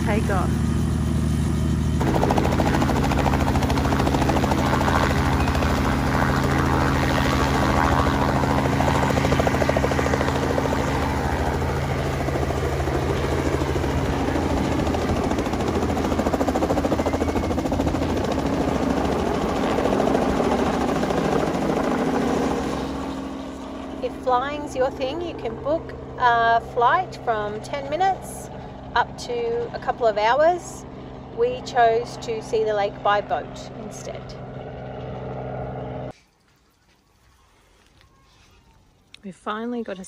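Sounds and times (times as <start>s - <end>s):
helicopter engine and rotor: 0.0s - 36.1s.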